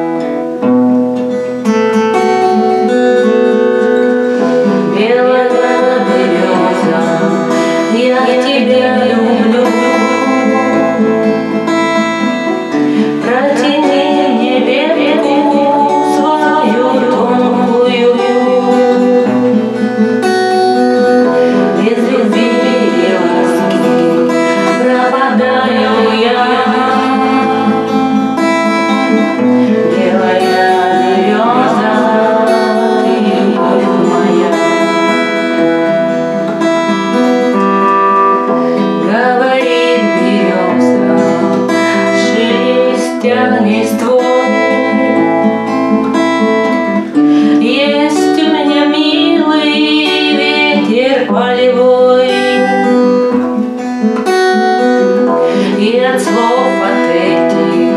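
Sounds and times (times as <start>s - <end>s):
strummed acoustic guitar: 0.0s - 57.9s
woman singing: 3.9s - 53.4s, 54.5s - 57.9s.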